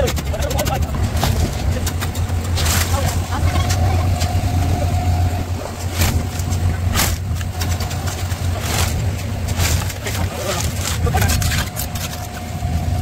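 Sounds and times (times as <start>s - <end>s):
cement mixer engine humming: 0.0s - 13.0s.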